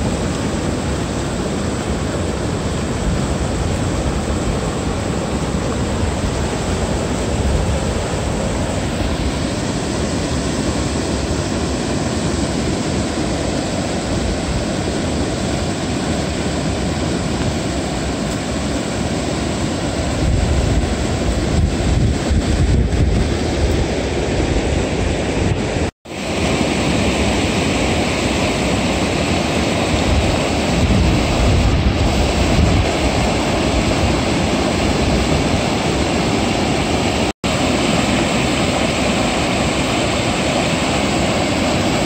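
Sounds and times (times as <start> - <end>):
wind buffeting microphone: 0.0 - 25.9, 27.0 - 42.0
river water churning over rapids: 0.0 - 42.0.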